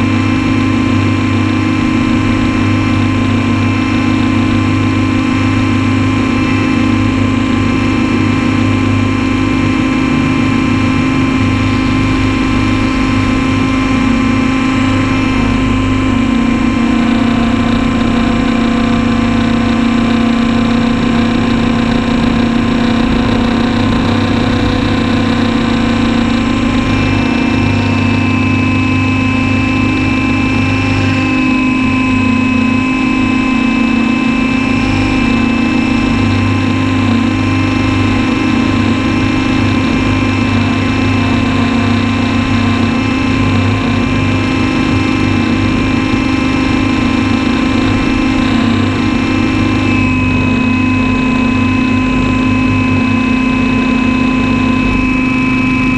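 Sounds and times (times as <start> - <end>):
radio-controlled copter humming: 0.0 - 55.9.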